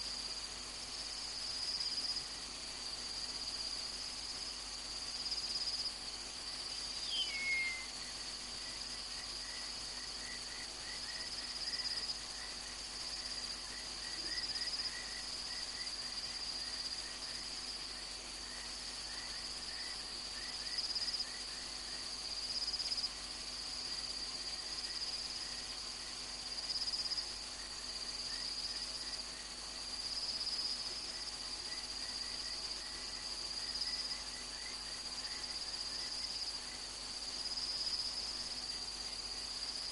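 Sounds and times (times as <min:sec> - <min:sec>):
insect trill: 0:00.0 - 0:39.9
rapid ticking insect call: 0:00.0 - 0:39.9.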